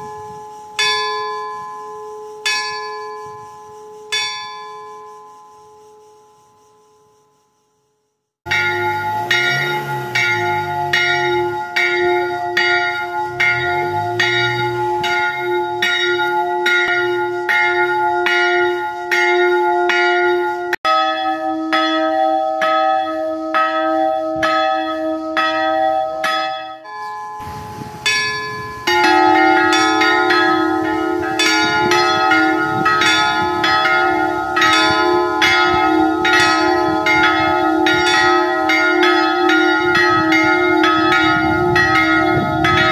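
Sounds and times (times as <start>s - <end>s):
church bells ringing: 0.0s - 5.8s, 8.5s - 42.9s.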